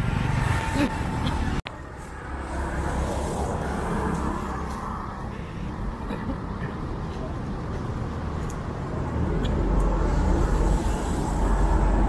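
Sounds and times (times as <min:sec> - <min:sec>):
vehicle passing by: 0:00.0 - 0:05.9, 0:07.9 - 0:12.0
traffic engine rumble: 0:00.0 - 0:12.0.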